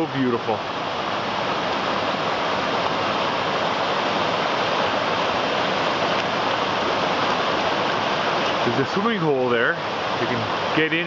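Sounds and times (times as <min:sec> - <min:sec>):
waterfall and creek rushing: 0:00.0 - 0:11.0.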